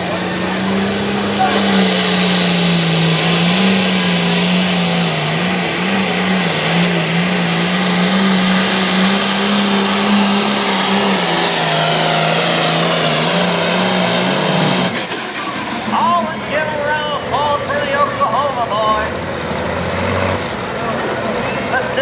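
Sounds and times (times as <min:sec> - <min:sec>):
tractor diesel engine at full throttle: 0:00.0 - 0:22.0.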